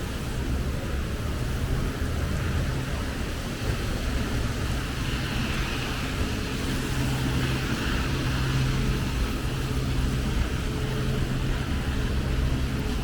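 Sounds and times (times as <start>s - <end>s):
constant hiss: 0.0s - 13.0s
vehicle engine humming: 0.0s - 13.0s.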